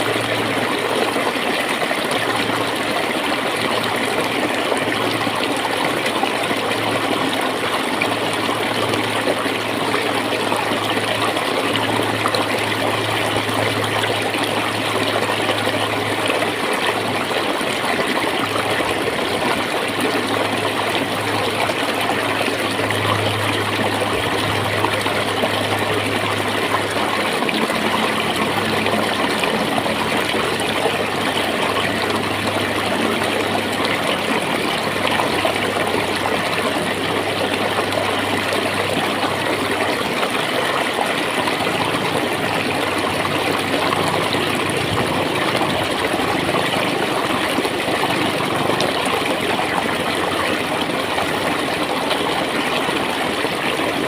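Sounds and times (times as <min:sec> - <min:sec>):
flowing water gurgling: 0:00.0 - 0:54.0.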